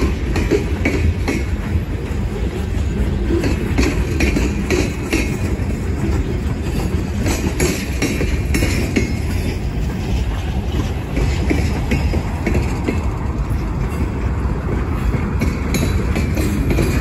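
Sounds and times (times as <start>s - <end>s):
train wheels rumbling on rail: 0.0s - 17.0s
wheels clanking over rail joints: 0.0s - 17.0s.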